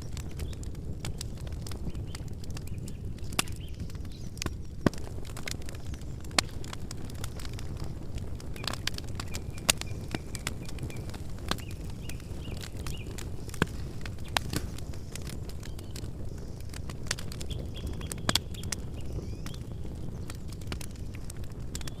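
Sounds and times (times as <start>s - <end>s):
campfire crackles and pops: 0.0s - 22.0s
low rush of flame: 0.0s - 22.0s.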